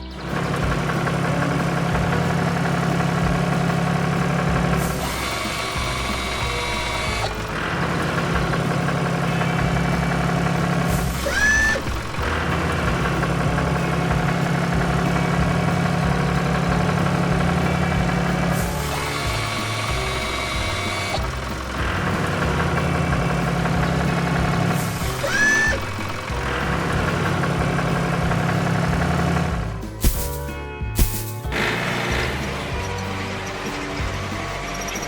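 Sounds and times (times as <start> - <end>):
cartoon vehicle engine effect: 0.0 - 30.4, 31.0 - 35.0
background music: 0.0 - 35.0.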